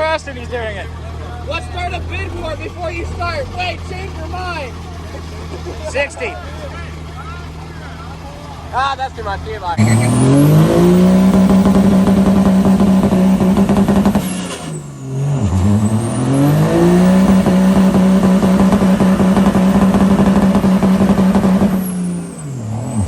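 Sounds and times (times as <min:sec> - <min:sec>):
engine revving at high revs: 0:01.7 - 0:23.0.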